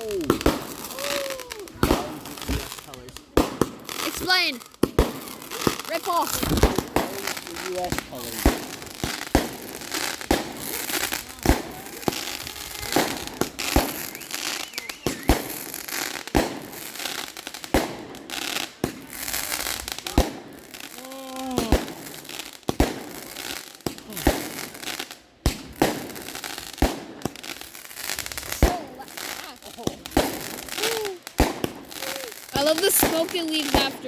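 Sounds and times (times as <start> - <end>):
fireworks bangs: 0.0 - 34.0
fireworks crackle: 0.0 - 34.0.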